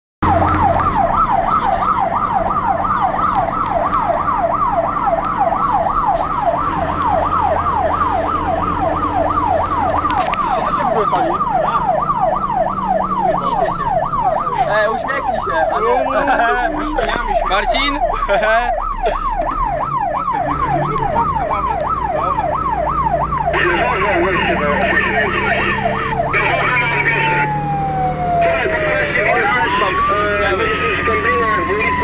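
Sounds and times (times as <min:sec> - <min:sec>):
fire truck siren yelping: 0:00.2 - 0:32.0
truck engine running: 0:00.2 - 0:32.0.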